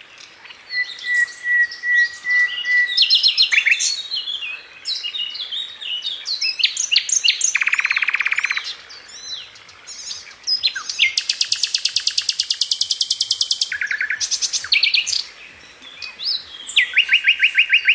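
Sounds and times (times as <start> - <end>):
songbird singing with trills: 0.0 - 17.9.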